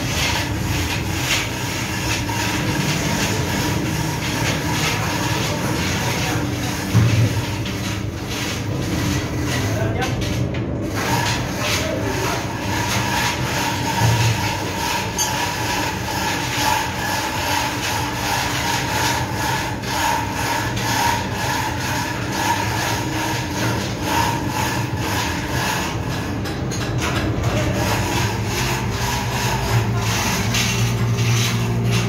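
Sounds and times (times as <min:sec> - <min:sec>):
engine-room machinery drone: 0:00.0 - 0:32.0.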